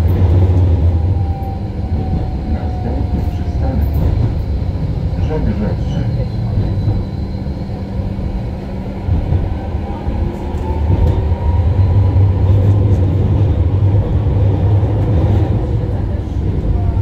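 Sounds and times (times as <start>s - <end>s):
electric tram hum: 0.0s - 17.0s.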